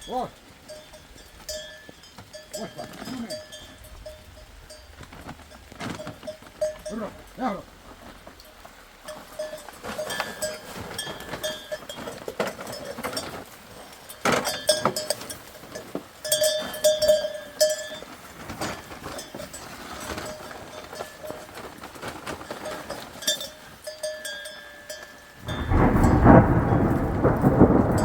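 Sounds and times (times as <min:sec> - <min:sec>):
livestock bells clanking: 0:00.0 - 0:28.0.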